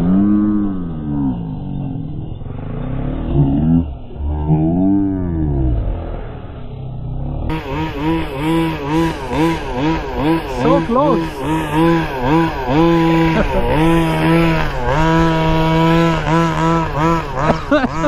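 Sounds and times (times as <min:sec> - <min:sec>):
small two-stroke engine revving: 0:00.0 - 0:06.0, 0:07.3 - 0:18.0.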